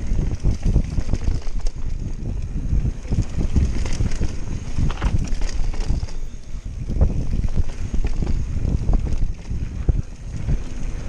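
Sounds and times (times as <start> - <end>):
bike knocks and rattles: 0.0 - 11.0
bike tyres rumbling on dirt: 0.0 - 11.0
wind buffeting microphone: 0.0 - 11.0.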